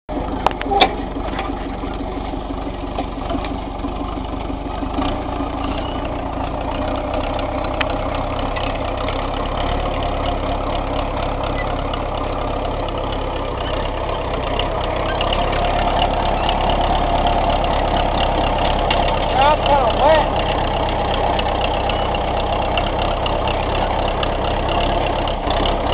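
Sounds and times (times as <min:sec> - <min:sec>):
tractor engine running: 0:00.1 - 0:25.9.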